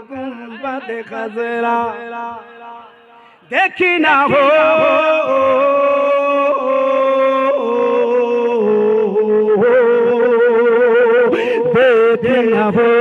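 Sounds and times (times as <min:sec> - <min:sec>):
man singing without words: 0:00.0 - 0:13.0.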